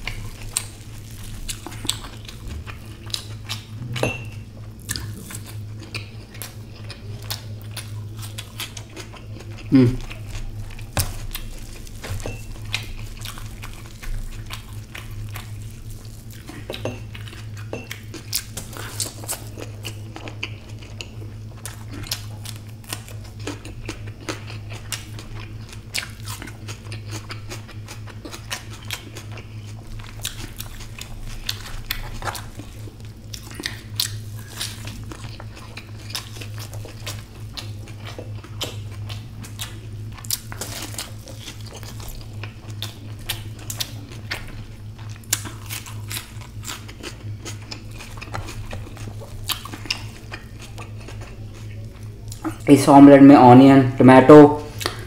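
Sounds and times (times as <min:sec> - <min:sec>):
chewing and biting omelette: 0:00.0 - 0:52.6
steady low hum: 0:00.0 - 0:55.0.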